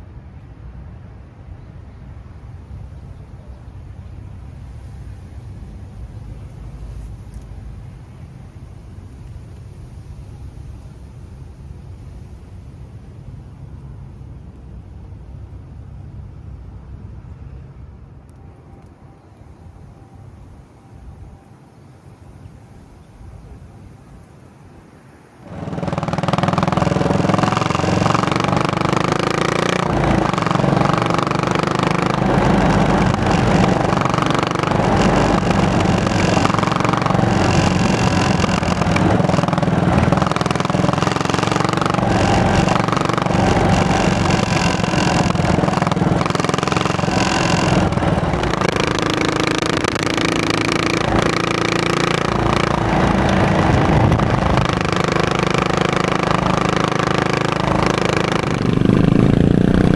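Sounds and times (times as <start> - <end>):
motorcycle engine running: 1.4 - 17.8, 25.4 - 59.9.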